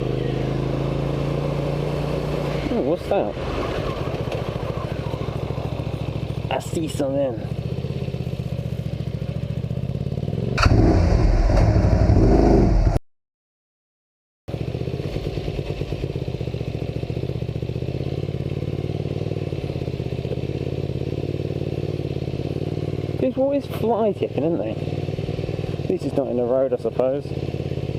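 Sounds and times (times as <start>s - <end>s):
motorcycle engine running: 0.0s - 13.0s, 14.5s - 27.9s.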